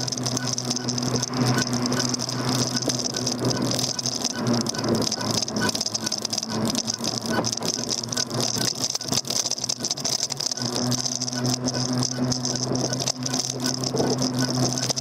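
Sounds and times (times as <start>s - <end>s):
electric motor hum and whine: 0.0s - 15.0s.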